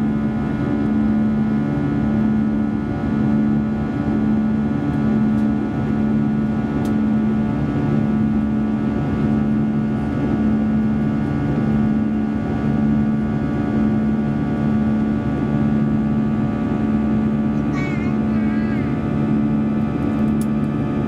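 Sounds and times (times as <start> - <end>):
jet engine drone in cabin: 0.0 - 21.0.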